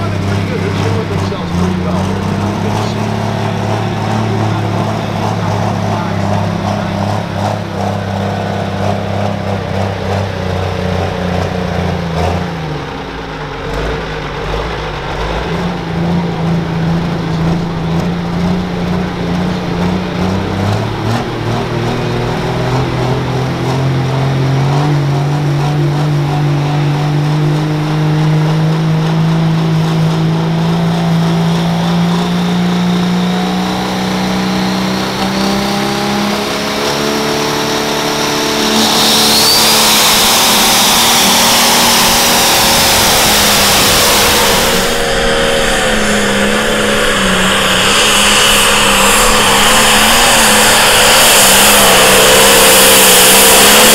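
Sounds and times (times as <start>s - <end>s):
turbocharged diesel engine under load: 0.0s - 53.9s.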